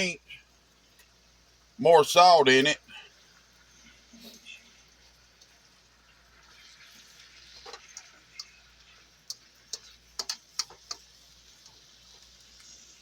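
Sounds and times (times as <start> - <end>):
cabbage sizzling: 0.0 - 13.0.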